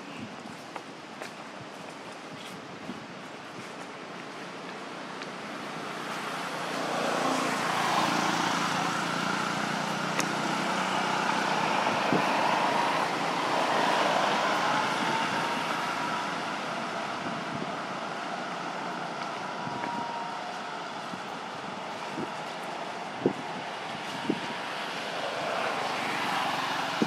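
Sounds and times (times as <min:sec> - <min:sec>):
vehicle engine and tyre hum: 0:00.0 - 0:27.0.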